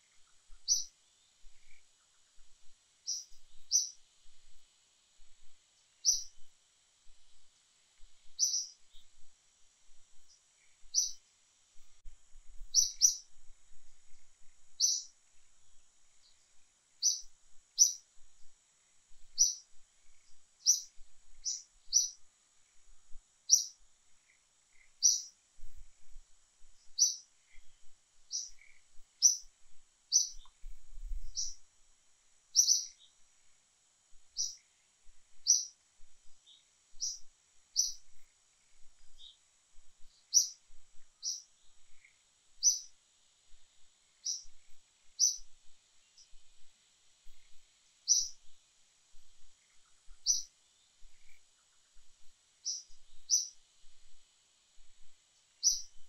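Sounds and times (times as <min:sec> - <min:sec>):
small bird chirping: 0:00.0 - 0:31.7, 0:32.5 - 0:54.2, 0:54.8 - 0:56.0
faint high hiss: 0:00.0 - 0:56.0.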